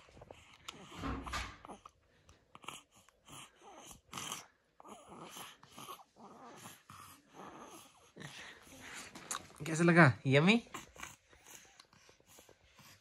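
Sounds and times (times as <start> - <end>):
baby grunting and sucking: 0.0 - 9.6, 10.6 - 12.9.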